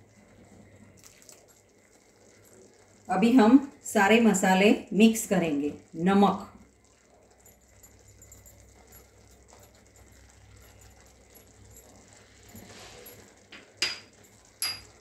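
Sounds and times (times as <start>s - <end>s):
steady low hum: 0.0s - 15.0s
syrup simmering crackle: 0.0s - 15.0s.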